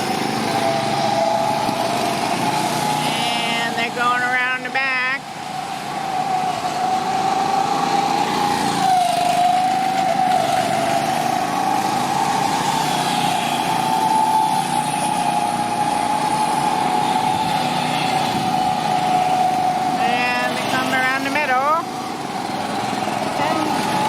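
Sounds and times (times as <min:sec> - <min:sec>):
go-kart engines droning: 0:00.0 - 0:24.0.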